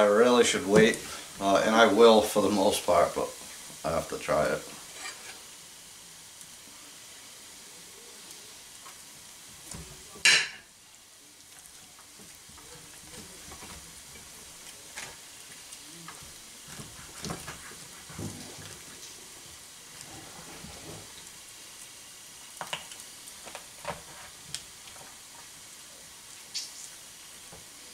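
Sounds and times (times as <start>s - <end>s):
faint steady hiss: 0.0s - 27.9s.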